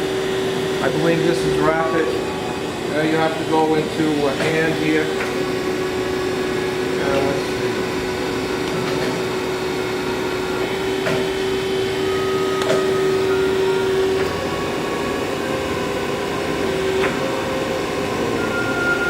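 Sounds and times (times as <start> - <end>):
surface grinder humming: 0.0 - 19.0.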